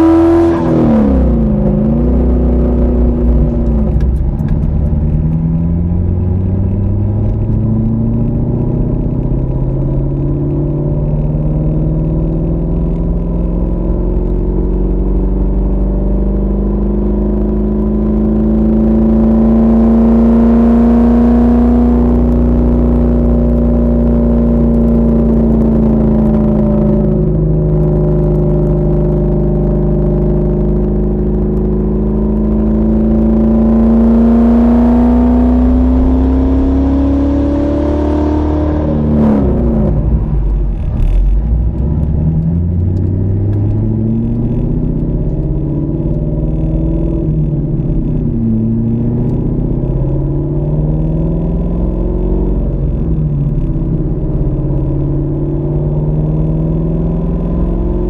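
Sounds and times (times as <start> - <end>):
car engine: 0.0 - 58.0
road noise inside car: 0.0 - 58.0.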